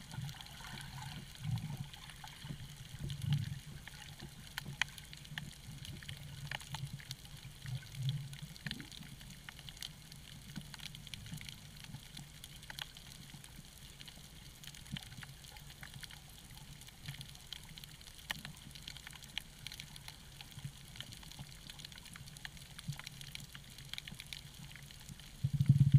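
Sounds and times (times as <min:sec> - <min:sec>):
crackle of sharp clicks underwater: 0:00.0 - 0:25.9.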